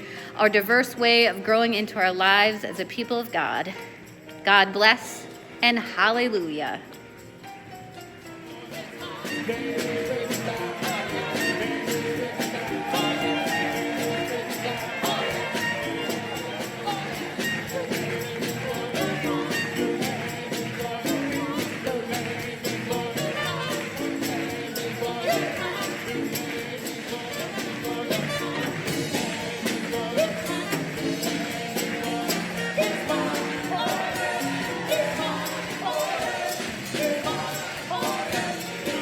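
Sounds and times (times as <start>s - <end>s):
music with light percussion beat: 0.0s - 39.0s.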